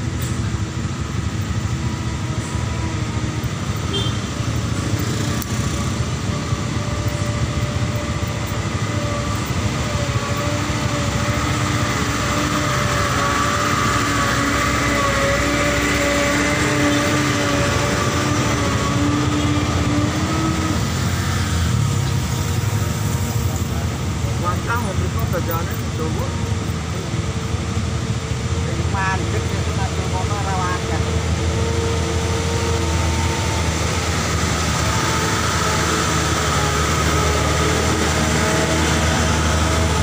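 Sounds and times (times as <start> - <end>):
slow traffic engines running: 0.0 - 40.0
truck engine passing: 0.0 - 40.0.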